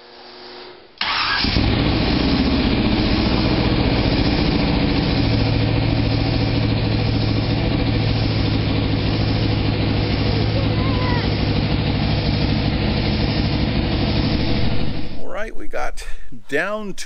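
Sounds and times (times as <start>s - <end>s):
car engine starting and running: 1.0s - 17.0s.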